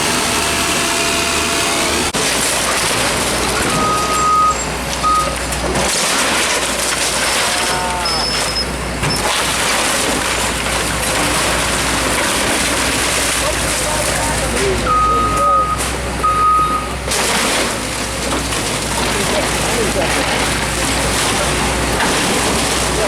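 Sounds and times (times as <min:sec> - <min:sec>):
heavy demolition machinery: 0:00.0 - 0:23.0.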